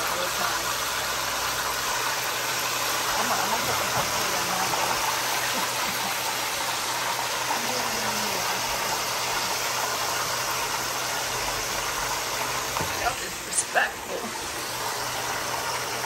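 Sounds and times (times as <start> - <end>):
chicken frying in hot oil: 0.0 - 16.0.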